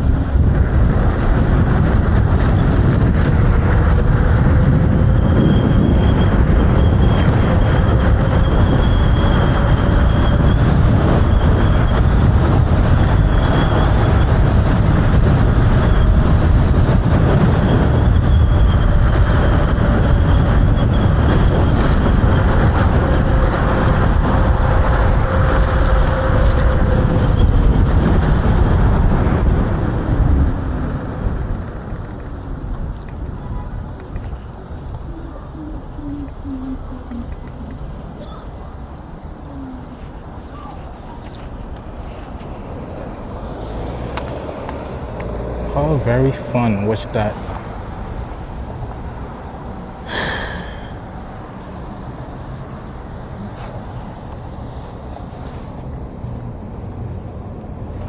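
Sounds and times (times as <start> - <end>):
wind and tyre noise: 0.0 - 58.0.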